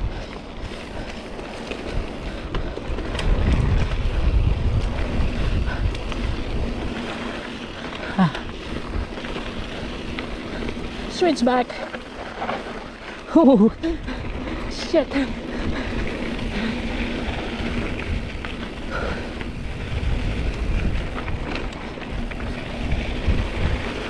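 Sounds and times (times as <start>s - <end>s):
wind buffeting microphone: 0.0s - 11.2s, 13.7s - 24.0s
bike tyres and rattle: 0.0s - 24.0s.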